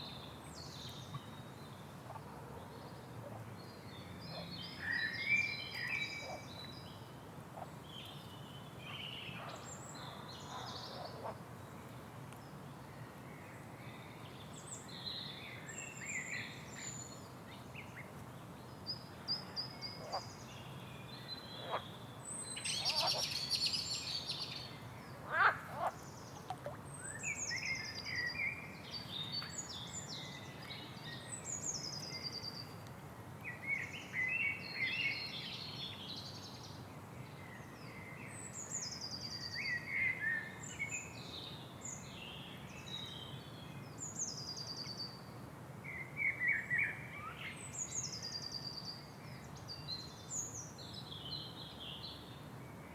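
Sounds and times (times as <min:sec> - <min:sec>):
low background noise: 0:00.0 - 0:52.9.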